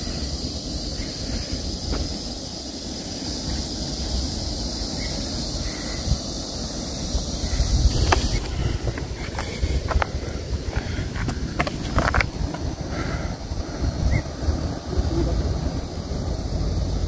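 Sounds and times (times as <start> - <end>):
high-pitched insect hiss: 0.0 - 17.0
wind on microphone: 0.0 - 17.0.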